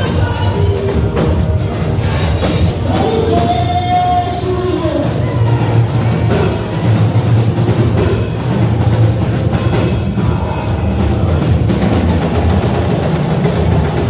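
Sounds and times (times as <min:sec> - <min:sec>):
drum kit beat: 0:00.0 - 0:14.0
live church band music: 0:00.0 - 0:14.0.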